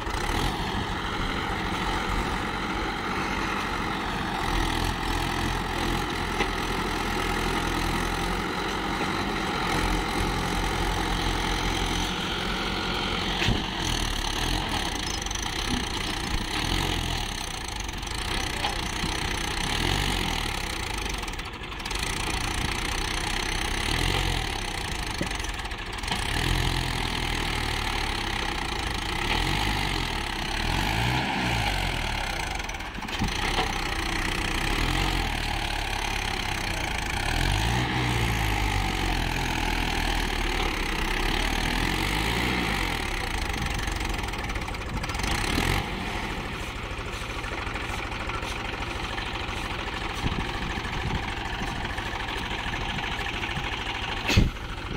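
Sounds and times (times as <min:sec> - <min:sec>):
tractor diesel engine labouring: 0:00.0 - 0:54.9.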